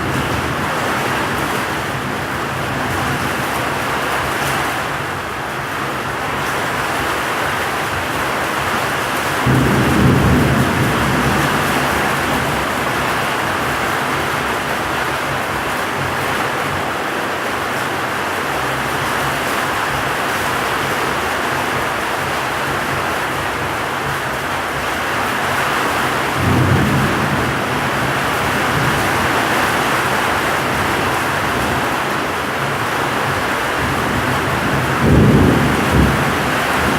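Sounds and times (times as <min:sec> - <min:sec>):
heavy rain pouring: 0:00.0 - 0:36.9
thunder rumbling: 0:00.0 - 0:36.9.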